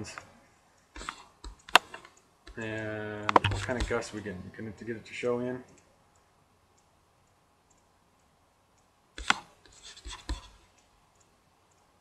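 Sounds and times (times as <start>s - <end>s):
computer mouse clicks: 0.8s - 4.1s, 5.7s - 12.0s.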